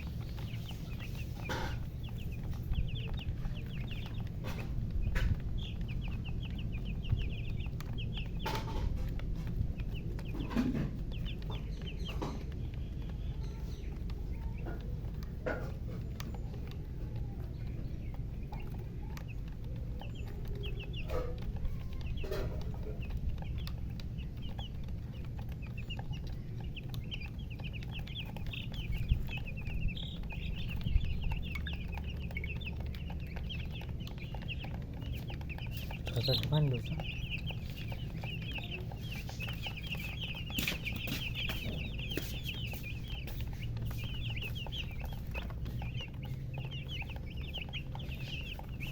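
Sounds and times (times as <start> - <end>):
chicks peeping: 0.0 - 48.9
hen clucking: 0.0 - 48.9
steady low rumble: 0.0 - 48.9.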